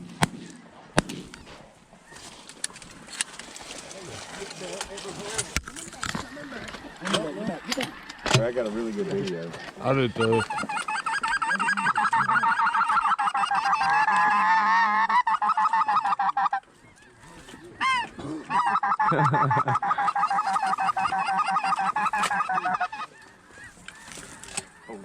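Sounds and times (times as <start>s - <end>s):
geese honking: 1.3s - 25.0s.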